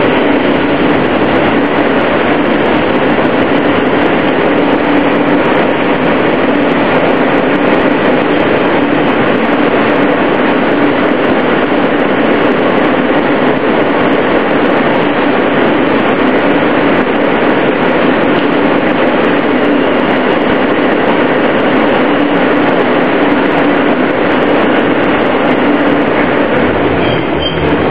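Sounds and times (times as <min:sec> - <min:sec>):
constant hum: 0:00.0 - 0:27.9
subway wheels rumbling on rail: 0:00.0 - 0:27.9.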